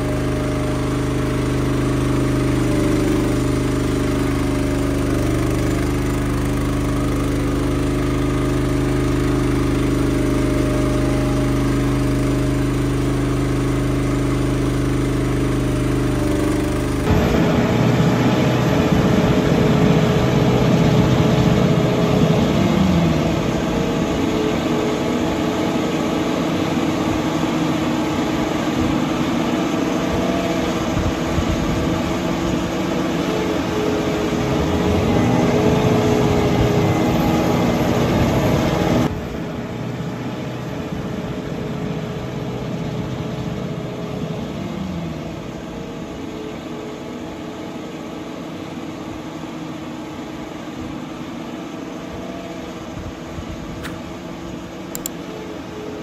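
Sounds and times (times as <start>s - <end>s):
cutter milling silage: 0.0s - 46.5s
engine running hard: 0.0s - 56.0s
steady machine hum: 0.0s - 56.0s.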